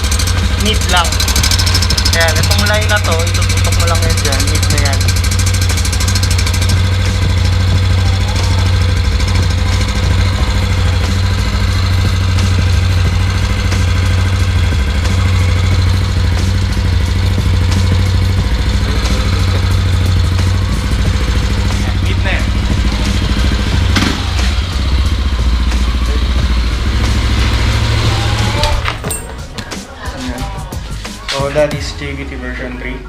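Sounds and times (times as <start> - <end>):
scooter engine idling: 0.0 - 32.3.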